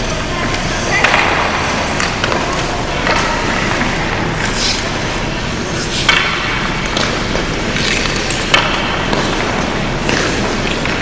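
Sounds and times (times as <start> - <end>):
hockey sticks knocking: 0.0 - 11.0
skate blades scraping ice: 0.0 - 11.0.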